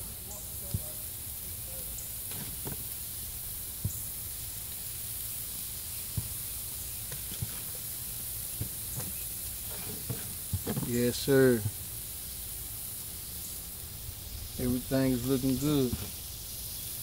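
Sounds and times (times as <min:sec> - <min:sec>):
meat sizzling on a grill: 0:00.0 - 0:17.0.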